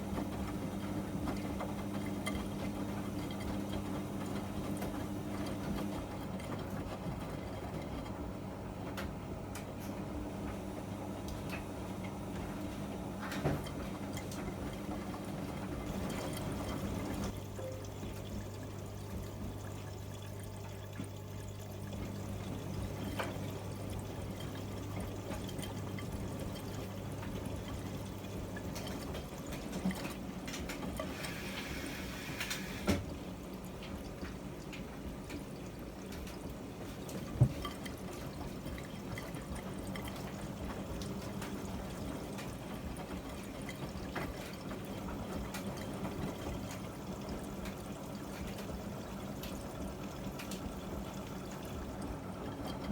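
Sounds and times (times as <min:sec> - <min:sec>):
low machine hum: 0:00.0 - 0:52.9
water splashing in washing machine: 0:00.0 - 0:52.9.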